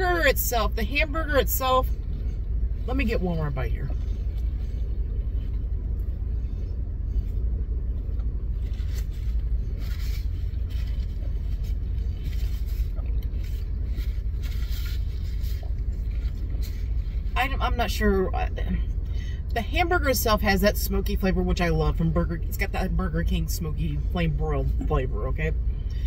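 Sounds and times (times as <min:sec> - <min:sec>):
low rumble inside car: 0:00.0 - 0:26.0.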